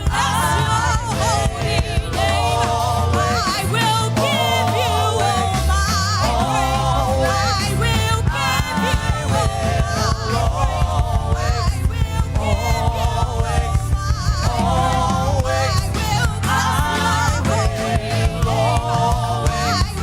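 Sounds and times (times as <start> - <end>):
heavy bass line: 0.0 - 20.0
singers with a band: 0.0 - 20.0
steady pulsing beat: 0.0 - 20.0.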